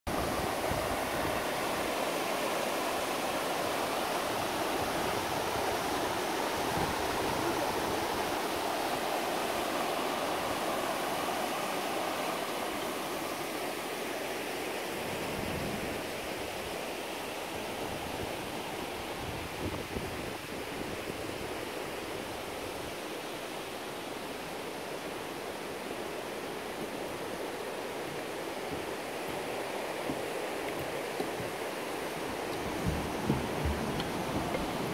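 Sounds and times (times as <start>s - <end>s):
stream running over rocks: 0.1s - 34.9s.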